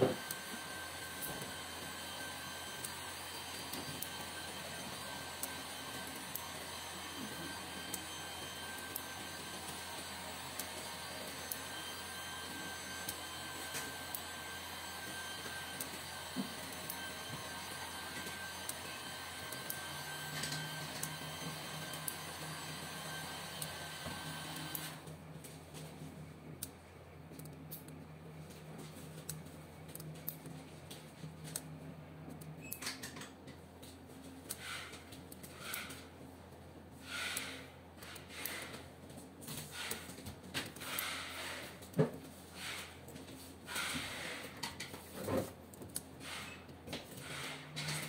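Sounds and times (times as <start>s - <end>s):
fan whir with high whine: 0.0s - 48.0s.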